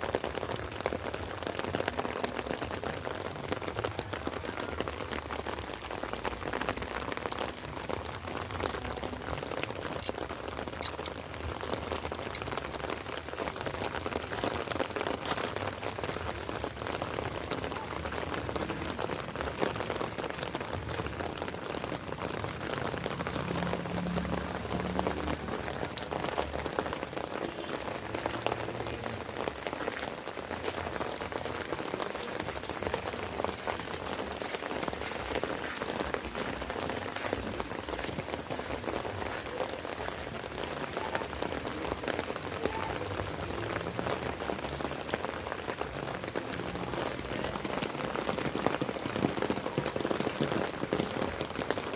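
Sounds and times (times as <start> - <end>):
light rain pattering: 0.0 - 51.9.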